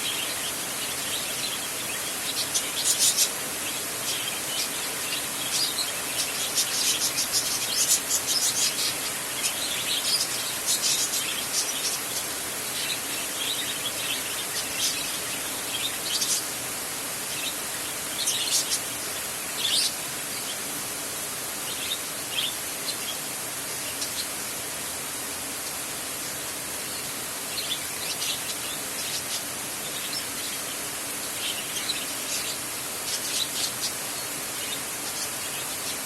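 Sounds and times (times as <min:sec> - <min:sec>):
birds chirping: 0:00.0 - 0:20.7, 0:26.8 - 0:36.0
steady rain hiss: 0:00.0 - 0:36.0.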